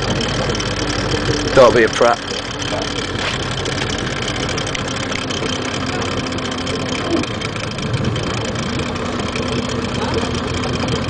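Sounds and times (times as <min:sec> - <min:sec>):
speedboat engine running: 0:00.0 - 0:11.0.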